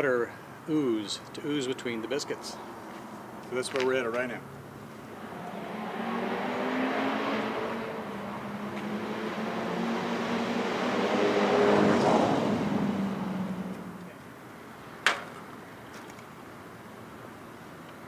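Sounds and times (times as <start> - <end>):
vehicles passing by: 0.0 - 18.0.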